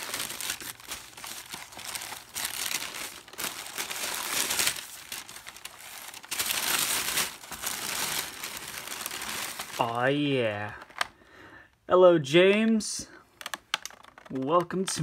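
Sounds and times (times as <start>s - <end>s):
bubble wrap rustling: 0.0s - 11.2s, 13.4s - 15.0s
paper packing crinkling: 0.0s - 11.2s, 13.4s - 15.0s.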